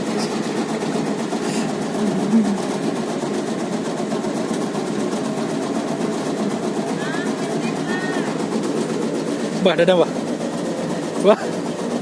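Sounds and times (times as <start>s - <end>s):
motorised cutting machine shredding leaves: 0.0s - 12.0s.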